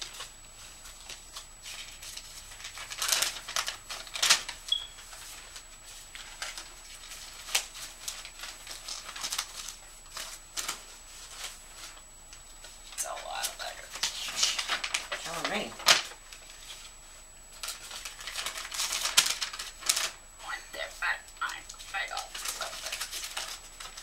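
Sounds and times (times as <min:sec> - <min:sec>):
paper rustling: 0:00.0 - 0:20.2, 0:20.8 - 0:24.0.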